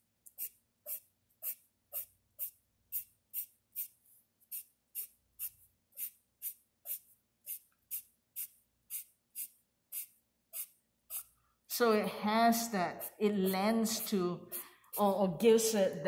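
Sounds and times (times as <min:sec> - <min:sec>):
pencil scratching on paper: 0:00.3 - 0:15.8.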